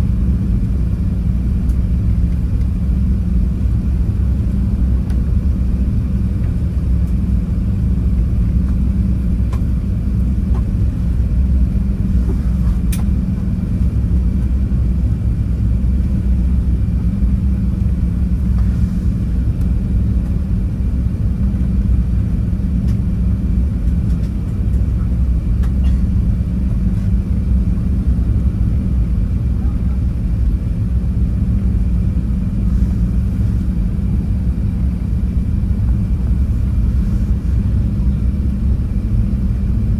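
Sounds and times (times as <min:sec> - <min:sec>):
airflow over fuselage: 0:00.0 - 0:39.9
jet engines deep rumble: 0:00.0 - 0:39.9.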